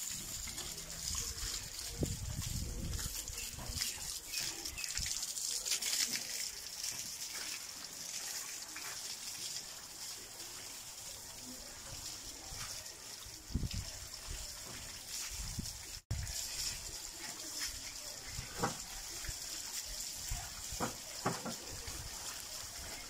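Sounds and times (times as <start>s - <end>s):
water splashing and trickling: 0.0s - 23.0s
water spraying from garden hose: 0.0s - 23.0s.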